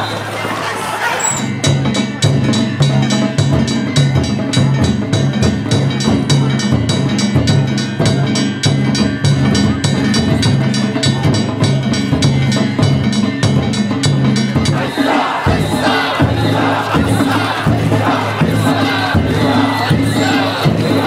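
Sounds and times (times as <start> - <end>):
taiko drums beating: 1.5 - 21.0.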